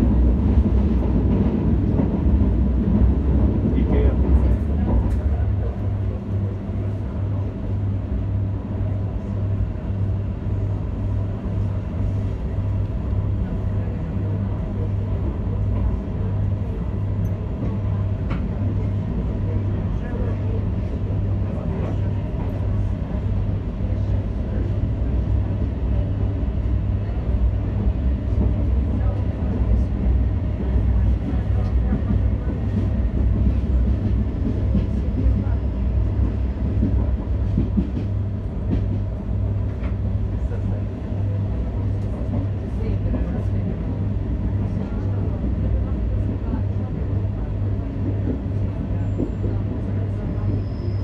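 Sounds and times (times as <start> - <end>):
electric train rumbling: 0.0 - 51.0.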